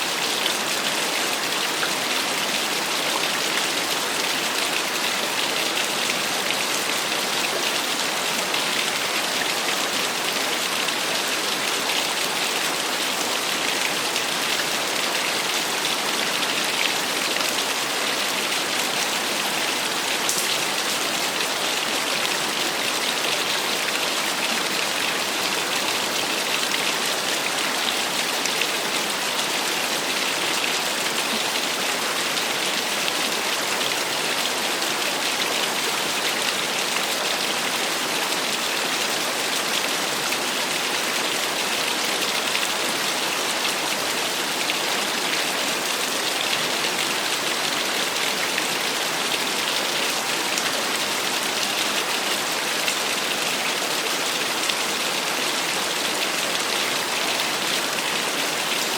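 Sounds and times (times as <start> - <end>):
small waterfall splashing: 0.0 - 58.9.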